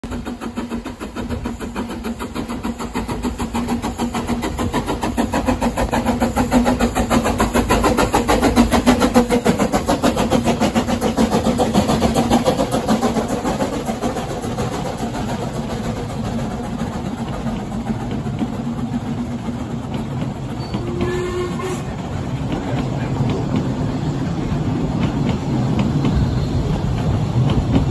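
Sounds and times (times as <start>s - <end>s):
coaches rolling on rails: 0.0s - 27.9s
steam locomotive passing: 0.0s - 27.9s.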